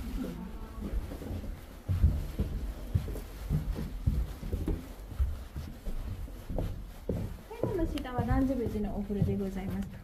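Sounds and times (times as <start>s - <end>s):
muffled footsteps: 0.0s - 10.0s.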